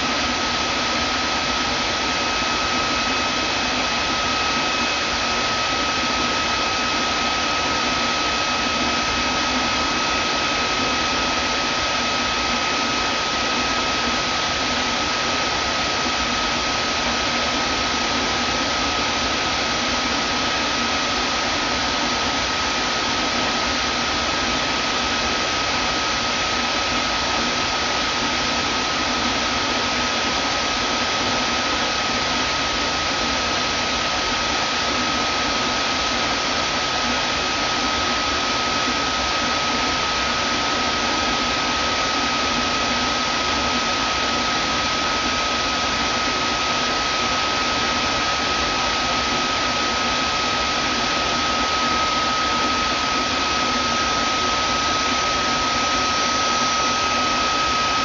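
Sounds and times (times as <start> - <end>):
vacuum cleaner motor running: 0.0 - 58.0.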